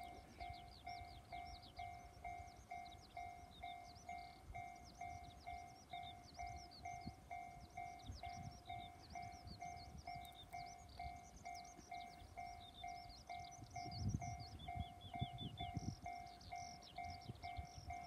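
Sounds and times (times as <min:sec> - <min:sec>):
high chirping calls: 0:00.0 - 0:18.0
level crossing warning bell: 0:00.0 - 0:18.0.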